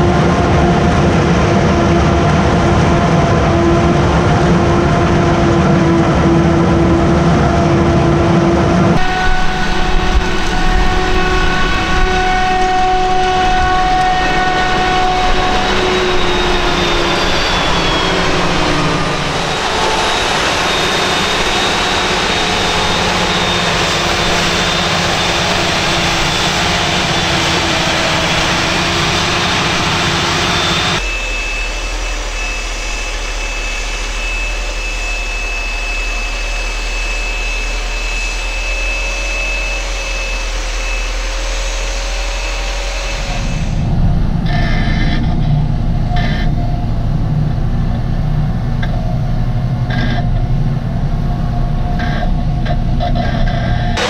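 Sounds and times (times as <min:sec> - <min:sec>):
diesel machinery engine: 0:00.0 - 0:54.0
thin high whine: 0:00.0 - 0:54.0.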